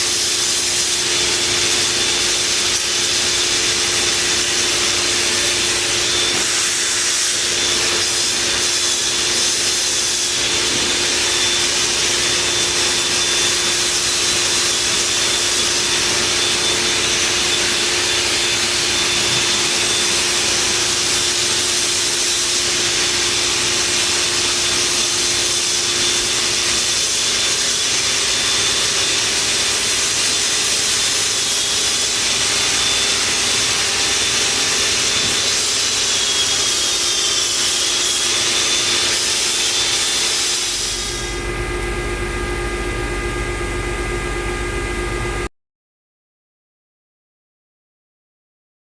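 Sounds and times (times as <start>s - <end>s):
cnc router cutting: 0.0s - 45.5s.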